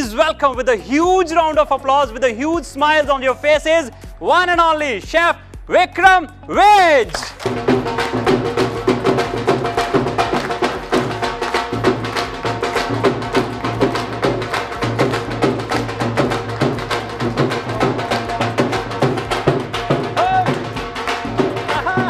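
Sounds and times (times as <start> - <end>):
dance music with drum: 0.0 - 22.0
dhol drum beating fast rhythm: 0.0 - 22.0.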